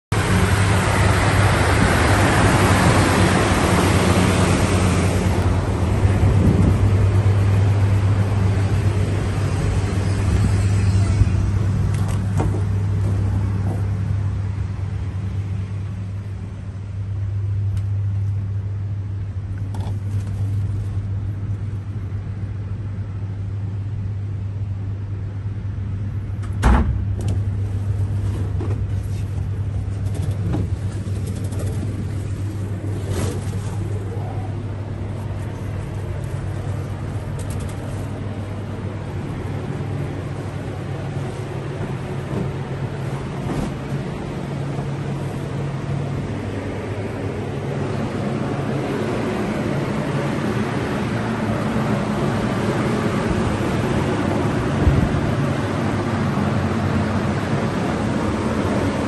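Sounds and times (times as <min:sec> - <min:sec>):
blower air rush: 0:00.1 - 0:19.0, 0:27.1 - 0:59.0
space heaters humming: 0:00.1 - 0:59.0.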